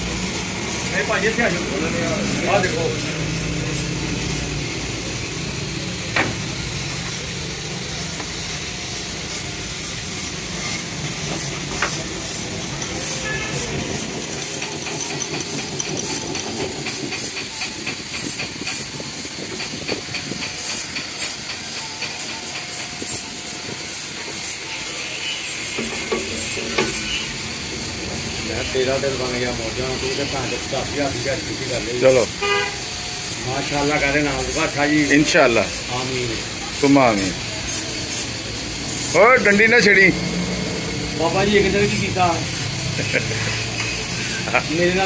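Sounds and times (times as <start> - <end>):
boring machine cutting: 0.0 - 45.0.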